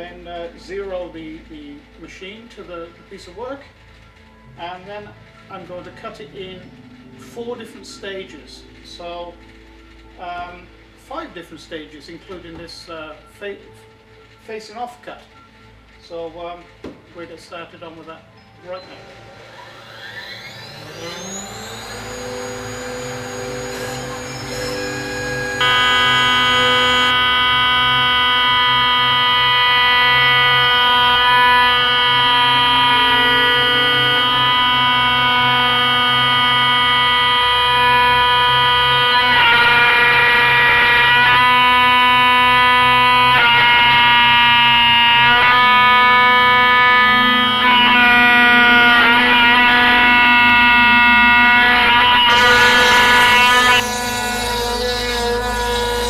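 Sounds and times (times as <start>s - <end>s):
router spindle whining: 0.0s - 14.5s, 15.3s - 56.0s.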